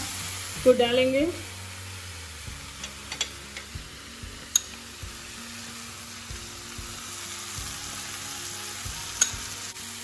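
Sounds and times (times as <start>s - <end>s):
vegetables sizzling in butter: 0.0s - 10.0s.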